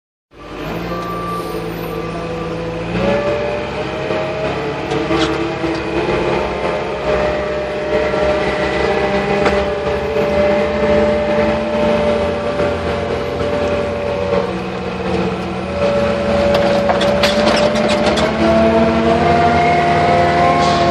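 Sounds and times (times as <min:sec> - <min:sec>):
tractor engine running: 0:00.4 - 0:20.9.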